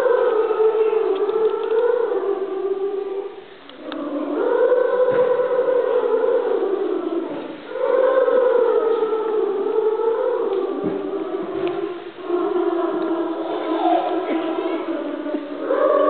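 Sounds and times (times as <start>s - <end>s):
children's choir singing: 0.0s - 16.0s.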